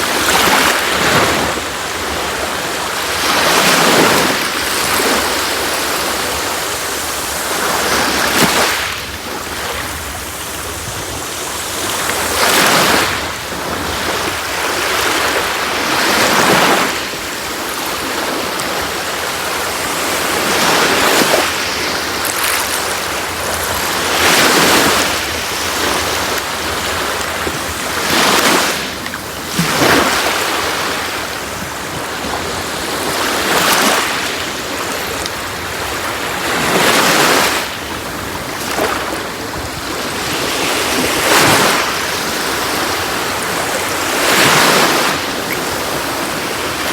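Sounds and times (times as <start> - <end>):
sea waves breaking: 0.0 - 46.9.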